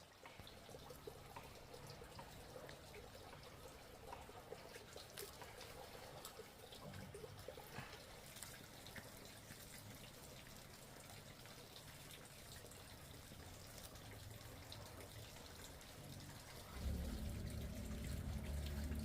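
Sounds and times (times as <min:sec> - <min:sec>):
water dripping and trickling: 0:00.0 - 0:19.0.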